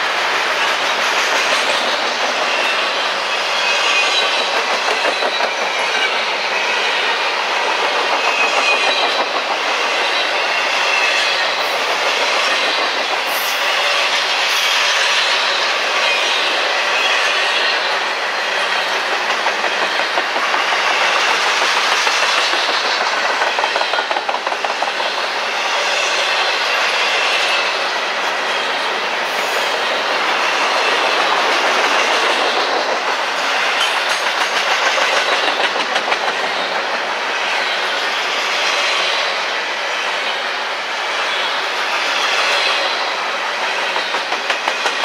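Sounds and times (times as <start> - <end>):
wheels clacking over rail joints: 0.0 - 39.0, 42.4 - 45.0
steel wheels rushing on rail: 0.0 - 45.0.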